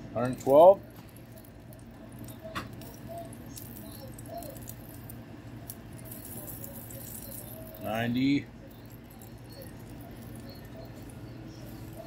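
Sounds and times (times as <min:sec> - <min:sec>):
low steady hum: 0:00.0 - 0:12.0
roasting pork crackling: 0:00.0 - 0:12.0.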